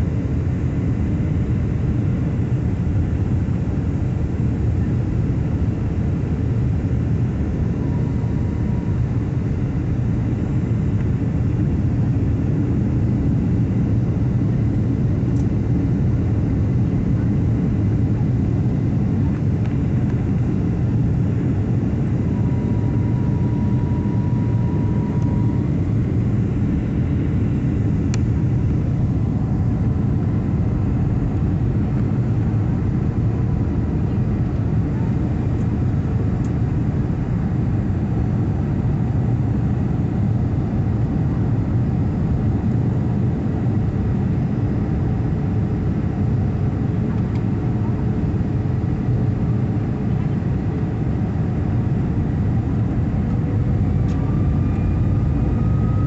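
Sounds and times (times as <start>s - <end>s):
airliner cabin roar: 0.0s - 56.0s
jet engine and airflow noise: 0.0s - 56.0s.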